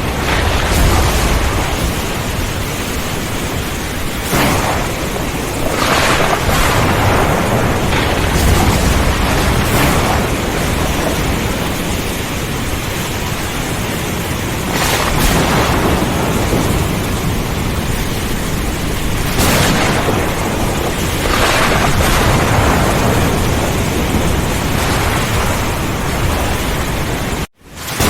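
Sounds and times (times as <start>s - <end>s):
low rumble of thunder: 0.0s - 27.5s
sharp thunder cracks: 0.0s - 28.0s
steady rain: 0.0s - 28.0s.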